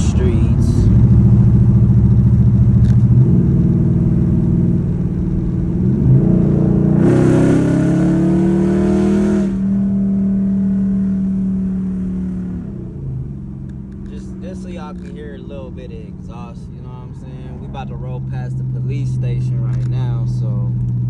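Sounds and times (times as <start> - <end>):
car engine from inside: 0.0 - 21.0.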